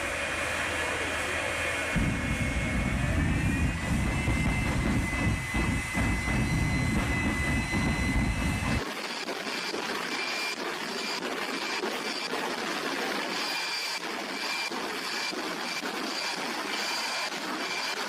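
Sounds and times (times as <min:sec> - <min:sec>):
jet engine roaring with high whine: 0:00.0 - 0:18.0.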